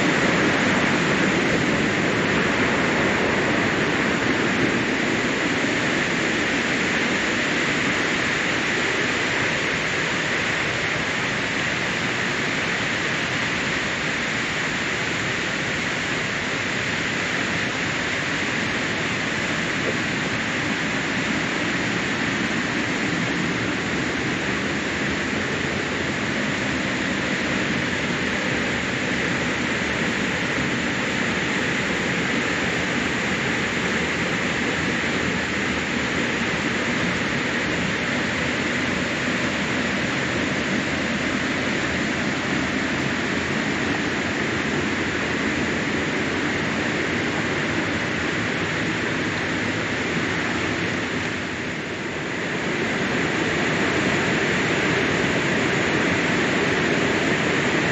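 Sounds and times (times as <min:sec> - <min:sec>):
water rushing over dam: 0:00.0 - 0:57.9.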